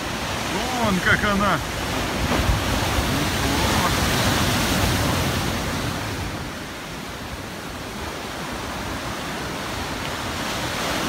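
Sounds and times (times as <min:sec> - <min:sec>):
surf breaking over rocks: 0:00.0 - 0:11.0.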